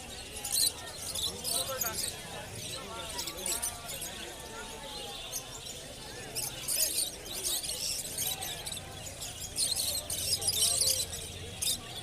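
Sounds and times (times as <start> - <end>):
faint voices: 0.0 - 12.0
small birds chirping: 0.0 - 12.0.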